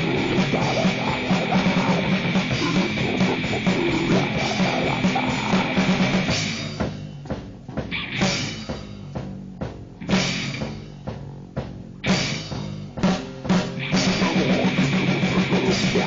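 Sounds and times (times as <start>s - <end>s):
distorted guitar and drums: 0.0s - 16.0s.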